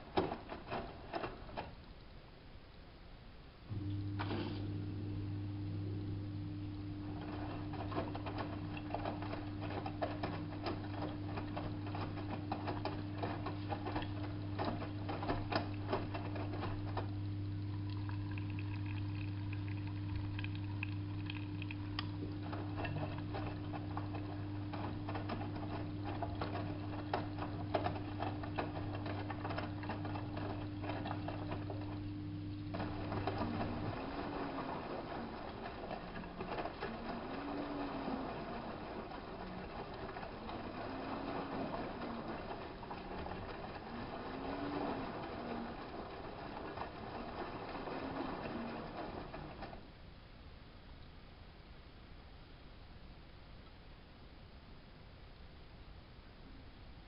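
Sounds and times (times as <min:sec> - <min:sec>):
washing machine motor hum: 0:00.0 - 0:02.8, 0:03.5 - 0:50.7.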